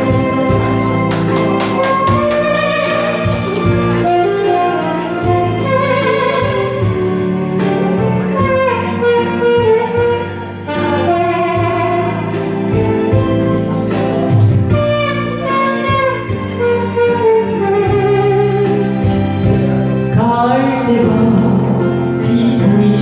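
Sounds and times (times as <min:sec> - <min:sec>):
instrumental ballad backing track: 0:00.0 - 0:23.0.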